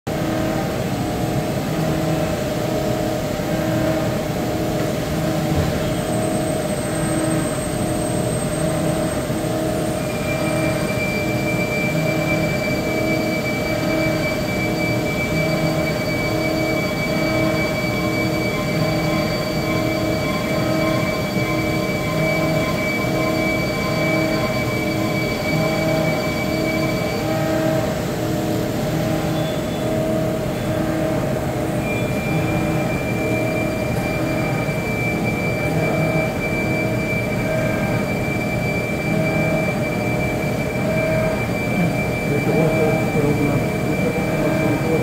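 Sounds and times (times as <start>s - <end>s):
high steady whine: 0.1s - 45.0s
lathe machine hum: 0.1s - 45.0s.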